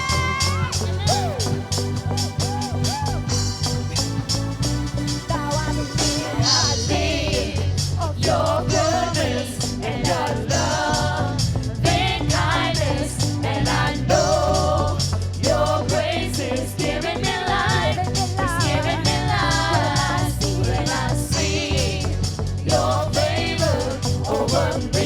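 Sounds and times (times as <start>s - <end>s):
band with steady bass line: 0.0s - 25.0s
voices singing gospel song: 0.0s - 25.0s.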